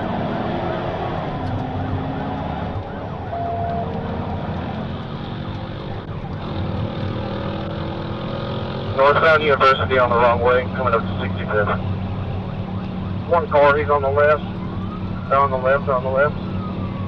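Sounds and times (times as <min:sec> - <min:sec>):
police siren wailing: 0:00.0 - 0:07.8, 0:08.9 - 0:17.0
car engine and road noise: 0:00.0 - 0:17.0.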